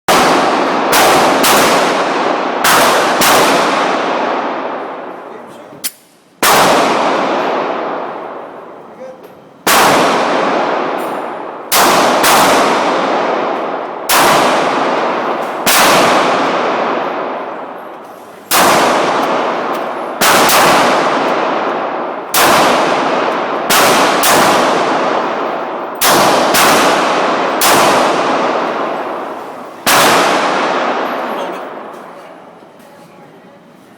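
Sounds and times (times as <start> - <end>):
pistol shots echoing indoors: 0.1 - 5.3, 5.9 - 8.9, 9.6 - 32.5.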